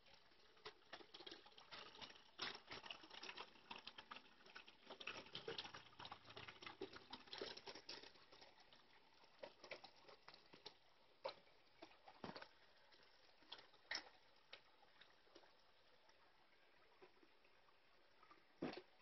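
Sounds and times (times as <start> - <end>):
water trickling over stones: 0.0 - 19.0.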